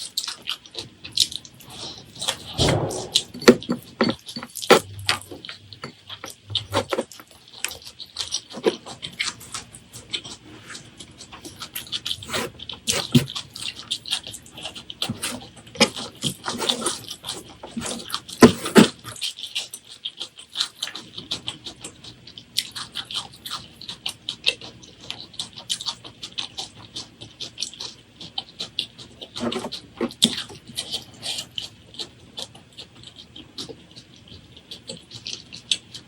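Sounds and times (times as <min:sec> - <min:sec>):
chewing with wet mouth clicks: 0:05.4 - 0:36.0.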